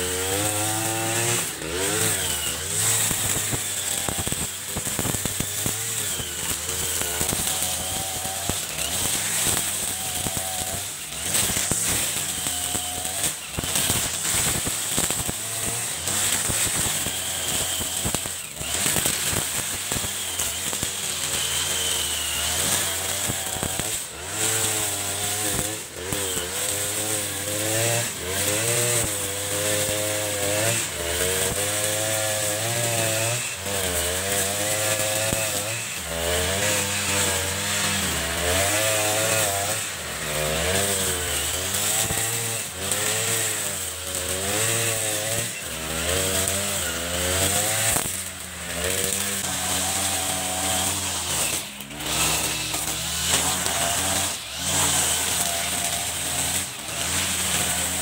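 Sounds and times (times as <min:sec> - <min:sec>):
brush cutter cutting grass: 0:00.0 - 0:58.0.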